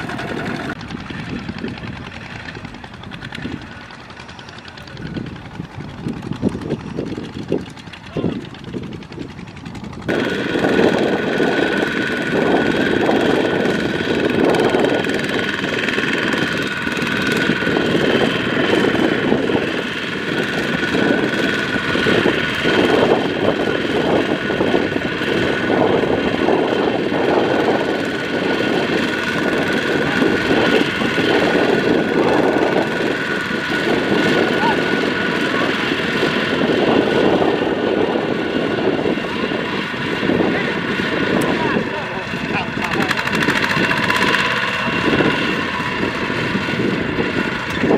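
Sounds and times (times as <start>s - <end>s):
diesel engine under heavy load: 0.0s - 47.9s.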